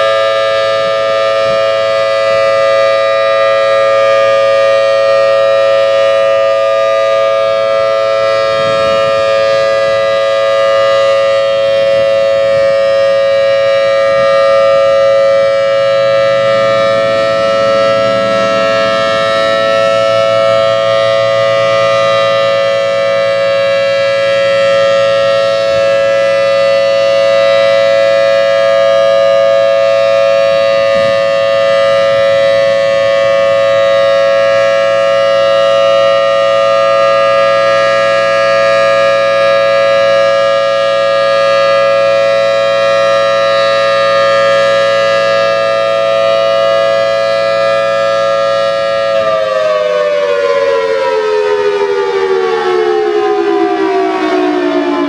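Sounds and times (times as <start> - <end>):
civil defense siren wailing: 0.0 - 55.0.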